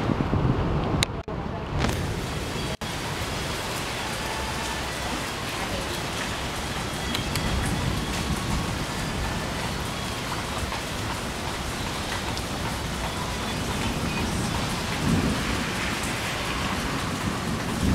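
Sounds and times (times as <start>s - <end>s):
heavy rain: 0.0s - 17.9s.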